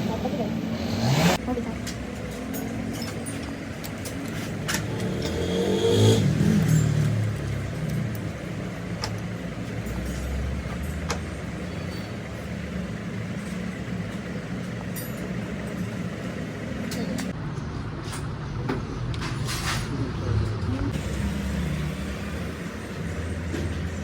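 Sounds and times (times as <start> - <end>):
car engine revving and idling: 0.0 - 17.4, 20.1 - 24.0.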